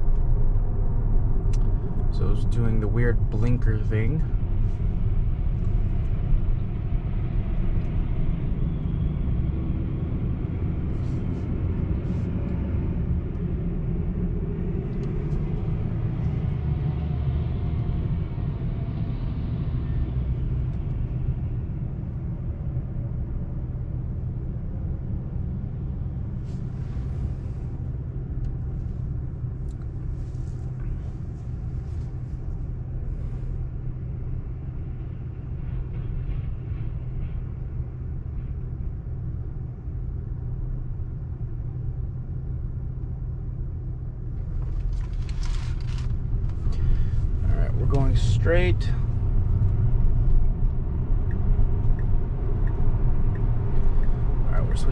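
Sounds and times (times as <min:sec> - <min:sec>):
road and tyre noise in car: 0:00.0 - 0:54.9.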